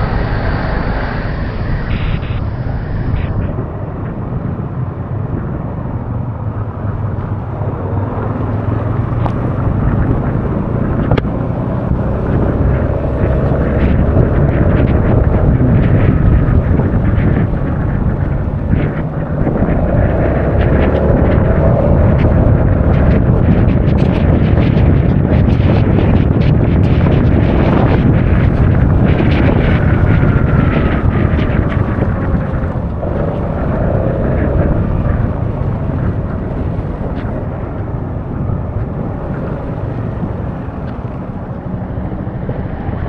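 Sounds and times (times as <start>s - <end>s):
road noise: 0.0s - 43.0s
wind buffeting microphone: 0.0s - 43.0s.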